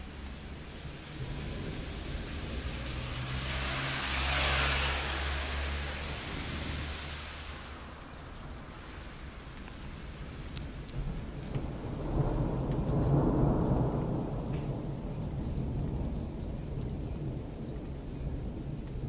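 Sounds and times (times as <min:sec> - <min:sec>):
vehicle passing on wet road: 0:00.0 - 0:19.0.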